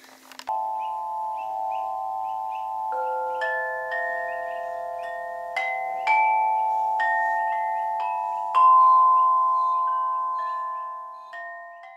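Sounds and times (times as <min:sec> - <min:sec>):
tuned metal chimes ringing: 0:00.5 - 0:11.9.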